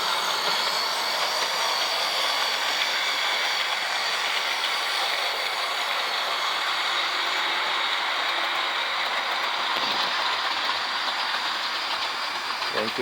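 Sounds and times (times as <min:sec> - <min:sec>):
model train motor growl and whine: 0:00.0 - 0:13.0.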